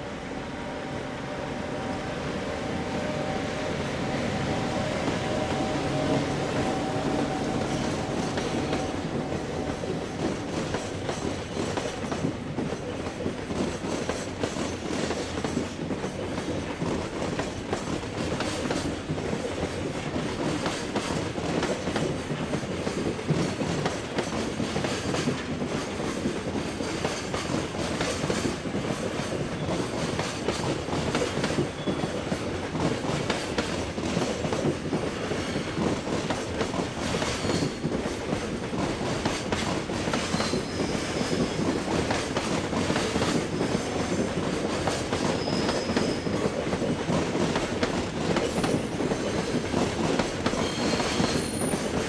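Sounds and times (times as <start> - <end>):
freight train rolling past: 0.0 - 52.0.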